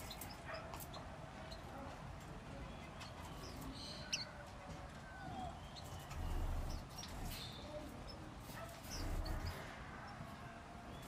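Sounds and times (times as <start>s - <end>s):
small cage birds chirping: 0.0s - 11.0s.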